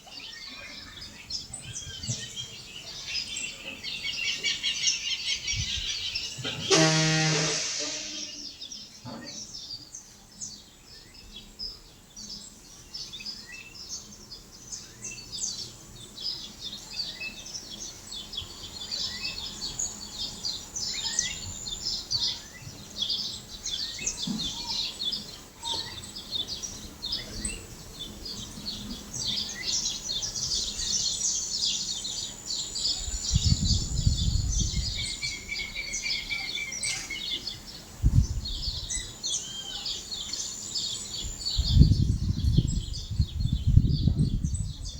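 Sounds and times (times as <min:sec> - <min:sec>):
chorus of birds chirping: 0:00.0 - 0:44.9.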